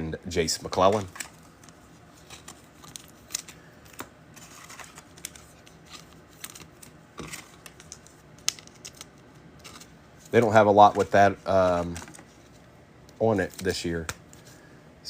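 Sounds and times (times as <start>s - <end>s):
cards and wrappers rustling: 0.4s - 14.6s.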